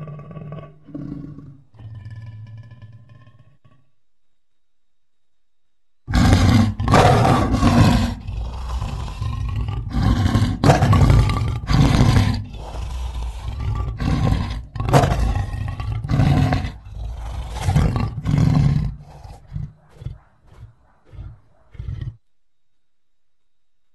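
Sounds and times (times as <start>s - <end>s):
lion roaring and grunting: 0.0s - 3.9s, 6.1s - 22.2s.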